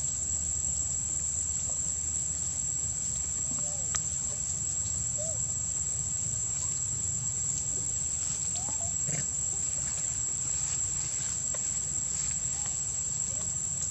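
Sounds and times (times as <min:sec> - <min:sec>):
high-pitched insect drone: 0:00.0 - 0:13.9.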